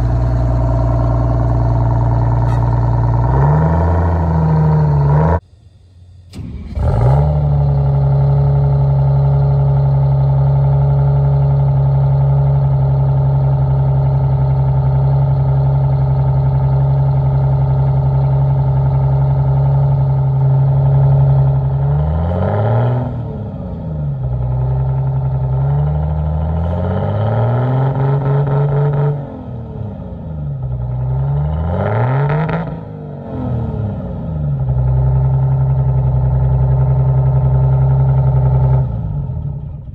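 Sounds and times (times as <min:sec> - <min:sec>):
diesel bus engine revving: 0:00.0 - 0:39.9.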